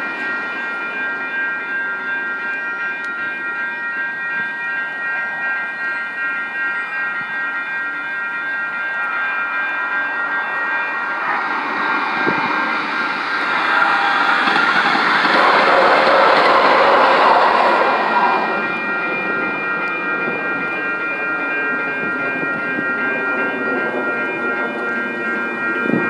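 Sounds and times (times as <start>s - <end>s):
crossing warning bells ringing: 0.0s - 26.0s
train wheels on rails: 0.0s - 26.0s.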